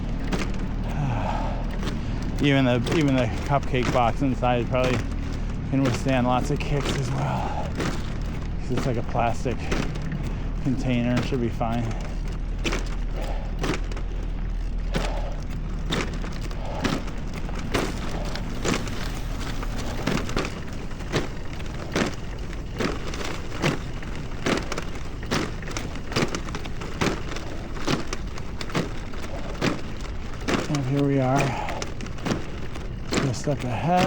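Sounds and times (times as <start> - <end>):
low rumble: 0.0 - 29.6
foot knocking a bike bag: 0.0 - 34.0.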